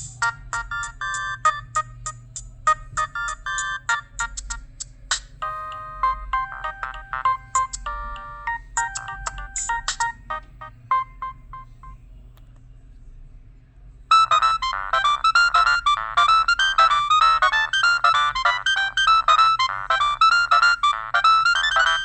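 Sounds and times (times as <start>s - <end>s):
mobile phone ringtone: 0.0s - 4.6s, 5.4s - 12.0s, 14.1s - 22.0s.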